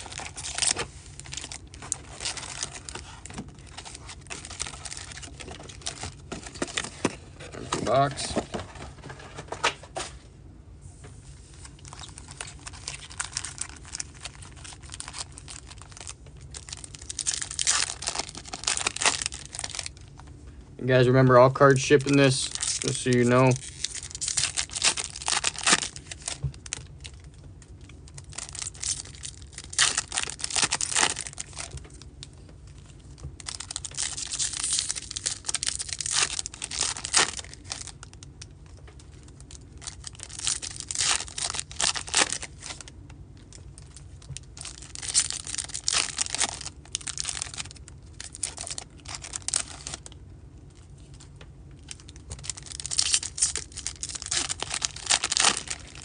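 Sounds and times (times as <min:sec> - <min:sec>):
plastic wrappers tearing and crinkling: 0:00.0 - 0:08.8, 0:11.6 - 0:20.2, 0:20.9 - 0:50.2, 0:50.8 - 0:56.0.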